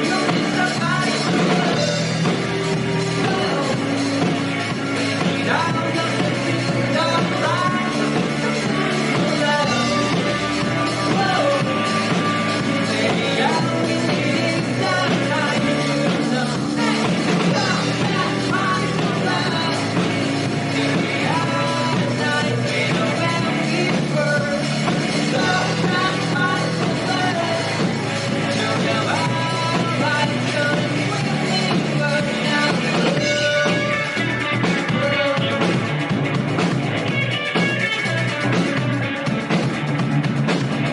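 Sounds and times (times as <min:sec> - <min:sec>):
person singing: 0:00.0 - 0:36.0
drums: 0:00.0 - 0:40.9
guitars: 0:00.0 - 0:40.9.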